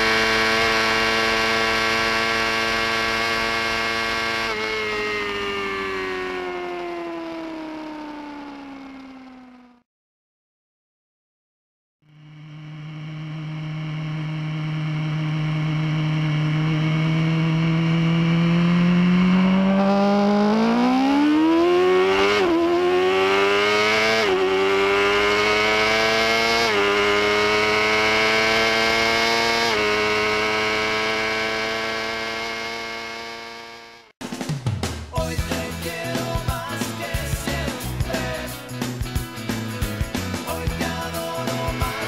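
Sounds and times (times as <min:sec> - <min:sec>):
motorcycle engine accelerating: 0:00.0 - 0:09.8, 0:12.0 - 0:42.0.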